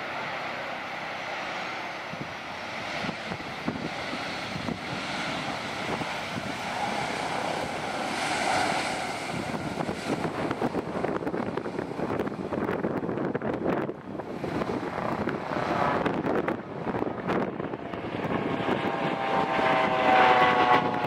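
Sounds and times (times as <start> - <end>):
jet engines roaring: 0.0 - 21.0
wind buffeting microphone: 1.6 - 21.0.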